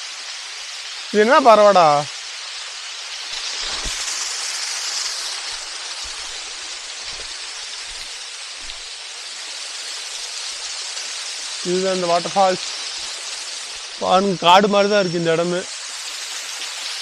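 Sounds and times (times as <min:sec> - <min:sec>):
small waterfall splashing: 0:00.0 - 0:17.0.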